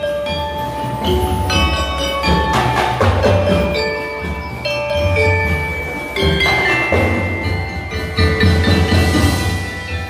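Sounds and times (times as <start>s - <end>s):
xylophones playing melody: 0.0s - 10.0s
bass drums and snares beating: 0.6s - 10.0s.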